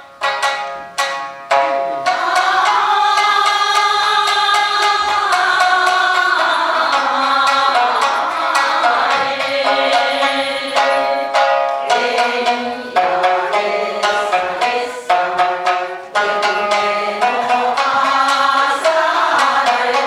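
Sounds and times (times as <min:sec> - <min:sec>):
plucked shamisen: 0:00.0 - 0:20.0
group singing folk song: 0:02.0 - 0:20.0.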